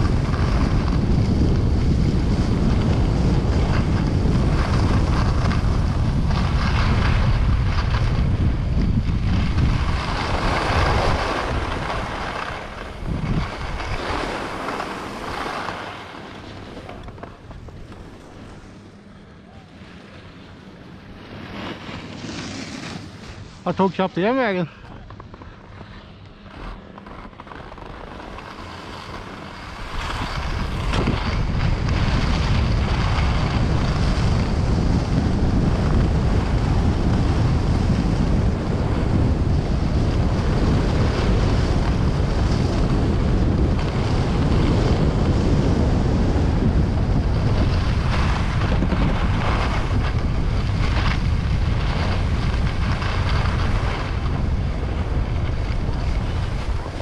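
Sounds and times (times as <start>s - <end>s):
wind buffeting microphone: 0.0s - 19.4s, 26.5s - 57.0s
skis sliding over snow: 0.0s - 57.0s.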